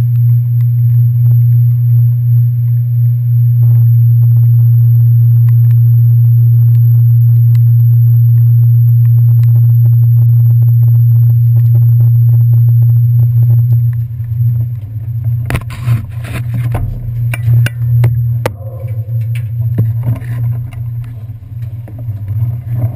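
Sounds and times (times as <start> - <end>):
ferry engines droning: 0.0 - 22.9.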